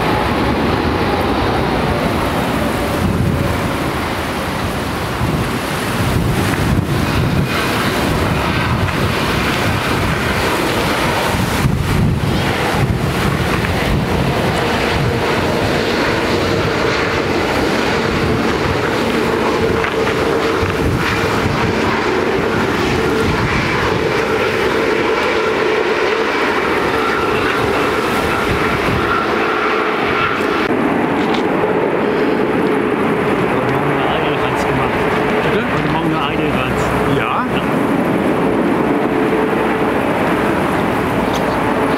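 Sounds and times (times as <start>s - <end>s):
jet engines roaring and whining: 0.0s - 41.9s.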